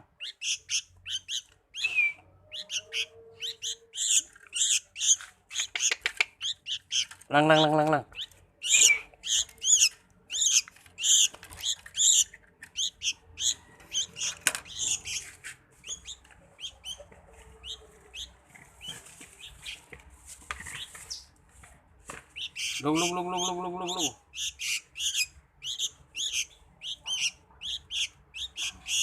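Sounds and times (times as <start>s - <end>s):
pet songbird chirping: 0.0s - 19.9s, 22.3s - 29.0s.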